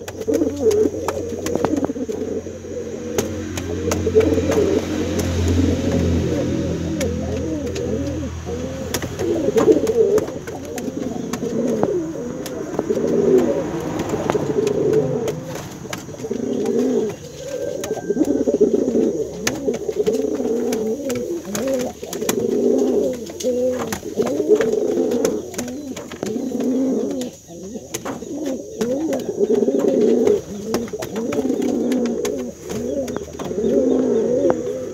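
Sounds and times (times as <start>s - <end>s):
pigeon cooing: 0.0s - 34.9s.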